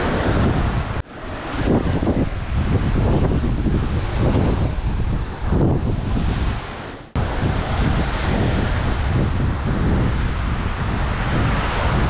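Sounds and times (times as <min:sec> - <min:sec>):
surf breaking on beach: 0:00.0 - 0:12.0
wind noise on microphone: 0:00.0 - 0:12.0.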